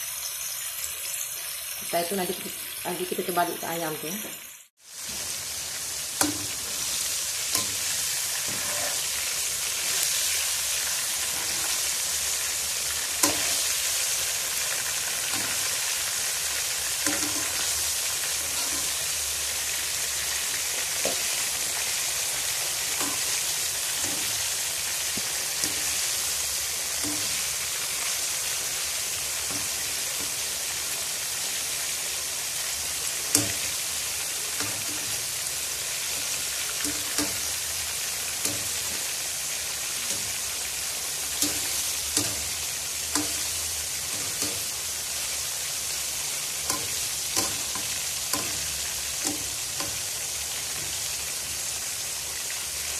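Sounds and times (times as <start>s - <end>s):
chicken deep-frying in oil: 0.0s - 52.9s.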